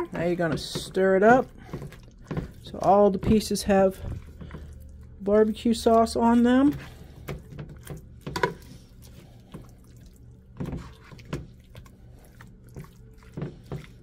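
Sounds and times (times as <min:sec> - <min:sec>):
wet sticky squelches of stirring: 0:00.0 - 0:14.0.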